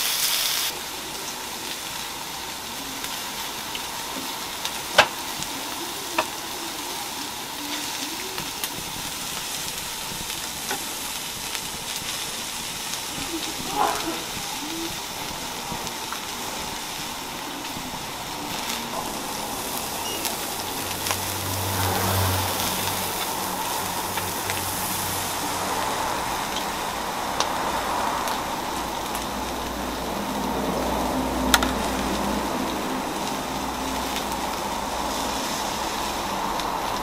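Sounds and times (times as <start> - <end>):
food sizzling on a griddle: 0.0 - 37.0.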